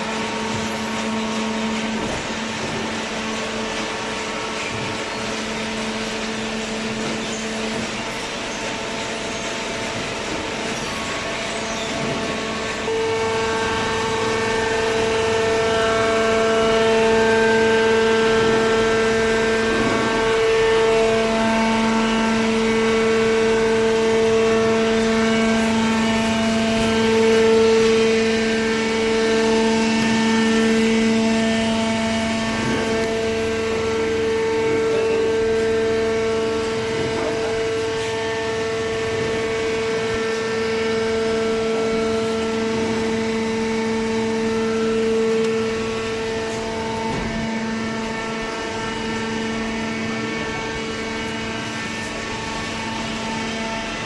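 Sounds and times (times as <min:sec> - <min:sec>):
hydraulic baler hum-whine: 0:00.0 - 0:54.0.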